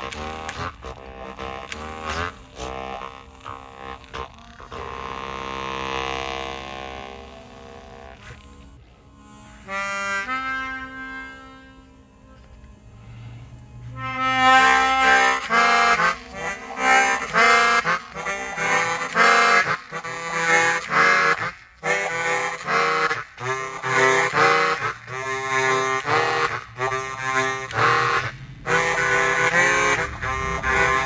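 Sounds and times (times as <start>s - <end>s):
harmonica with reverb: 0.0s - 31.0s.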